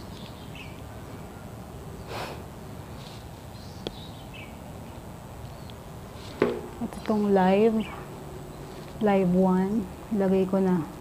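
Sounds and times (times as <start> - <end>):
background hiss: 0.0 - 11.0
breathy noise near microphone: 0.7 - 10.2.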